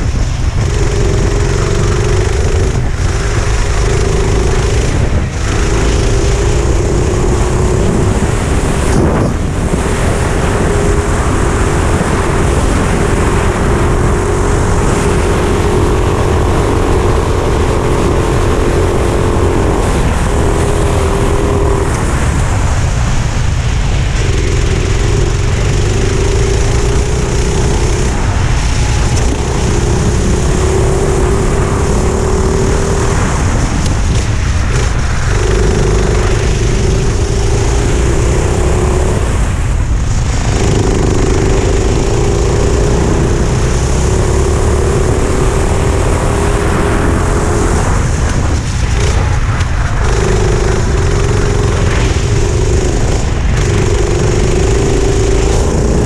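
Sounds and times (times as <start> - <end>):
kart engine revving: 0.0 - 56.0
wind rumble on microphone: 0.0 - 56.0.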